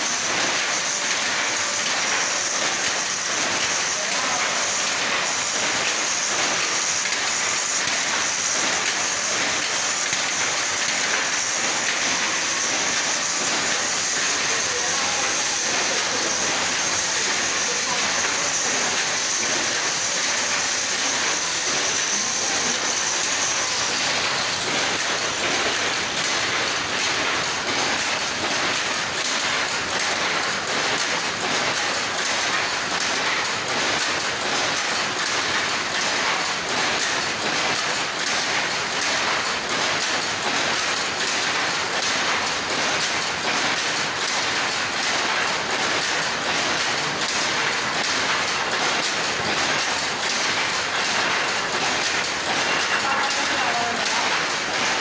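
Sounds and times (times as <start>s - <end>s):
power looms clattering: 0.0s - 55.0s.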